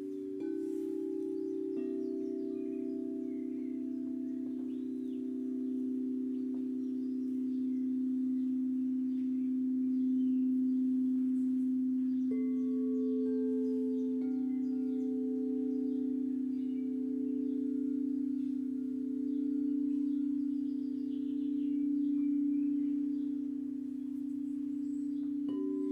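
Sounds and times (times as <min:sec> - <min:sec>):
faint bird chirps: 0:00.0 - 0:25.9
singing bowls ringing: 0:00.0 - 0:25.9.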